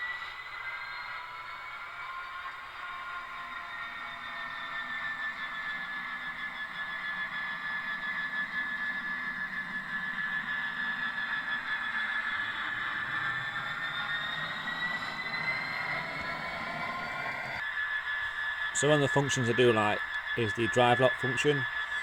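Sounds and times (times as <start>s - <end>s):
diesel locomotive engine through speakers: 0.0s - 22.0s.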